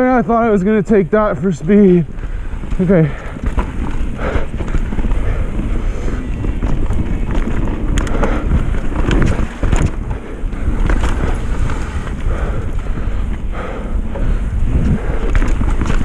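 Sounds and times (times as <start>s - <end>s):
bike tyres rolling on dirt trail: 0.0s - 16.0s
wind buffeting microphone: 0.0s - 16.0s
bike knocks and rattles: 1.4s - 16.0s.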